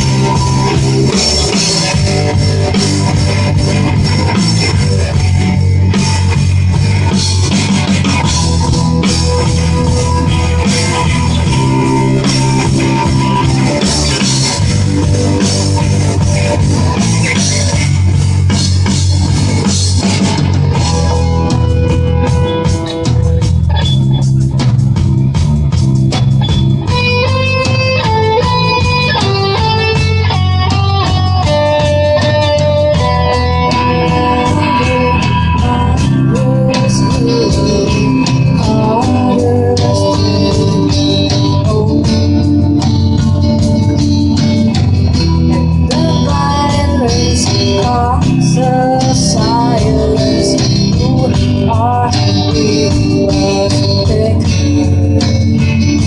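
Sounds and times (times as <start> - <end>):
bass guitar: 0.0 - 56.0
drum kit: 0.0 - 56.0
electric guitar: 0.0 - 56.0
organ-like keyboard chords: 0.0 - 56.0
rock band playing: 0.0 - 56.0.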